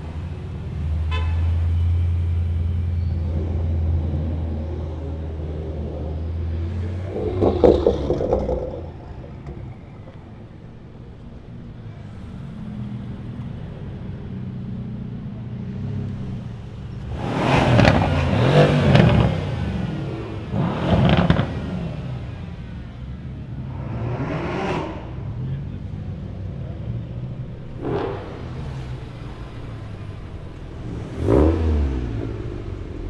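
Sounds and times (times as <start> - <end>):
cars revving past: 0.0 - 14.6, 15.7 - 33.0
engines idling rumble: 0.0 - 24.0, 25.0 - 33.0.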